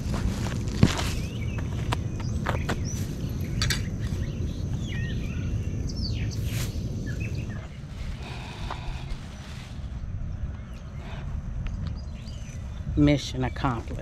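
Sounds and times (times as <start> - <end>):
low outdoor rumble: 0.0 - 14.0
songbirds chirping: 0.0 - 14.0.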